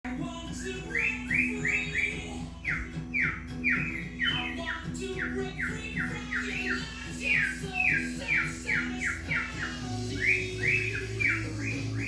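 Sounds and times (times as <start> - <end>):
background music: 0.1 - 12.0
cockatiel whistling: 0.5 - 12.0.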